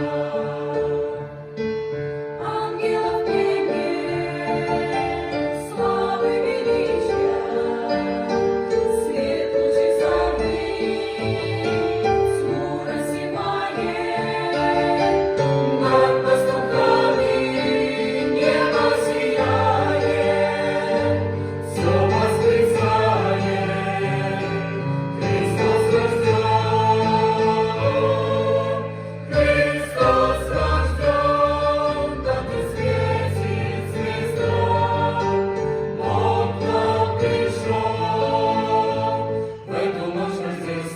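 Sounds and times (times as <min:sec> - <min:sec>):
choir singing in harmony: 0:00.0 - 0:40.9.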